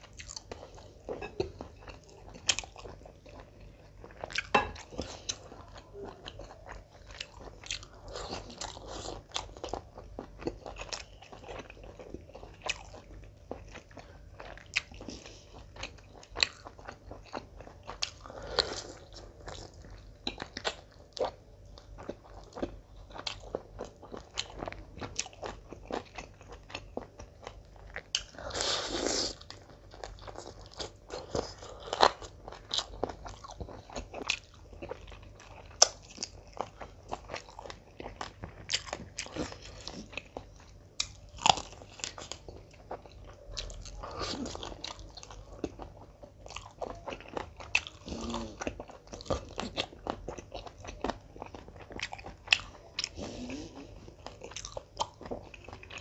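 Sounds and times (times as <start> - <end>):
close chewing with mouth clicks: 0.0 - 56.0.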